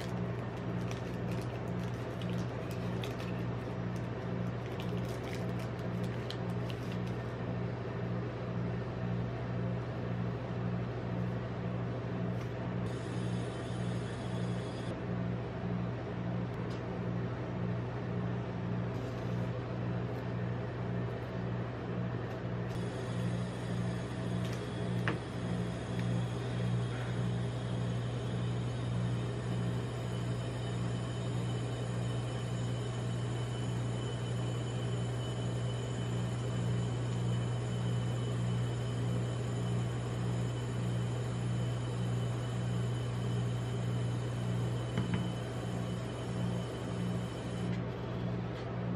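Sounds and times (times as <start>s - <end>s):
refrigeration compressor hum: 0.0s - 48.9s.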